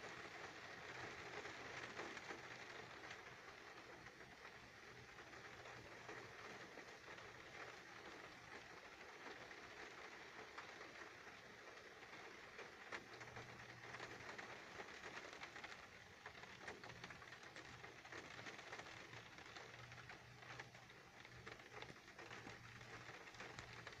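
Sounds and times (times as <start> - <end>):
rain pattering on a car: 0.0 - 24.0.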